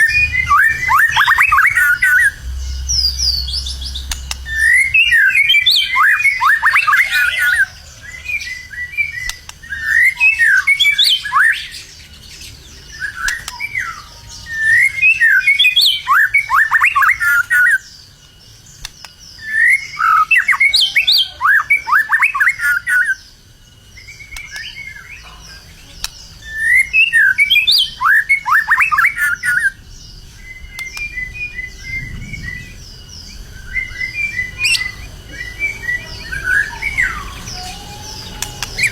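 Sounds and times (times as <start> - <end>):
bird singing rapid falling notes: 0.0 - 38.9.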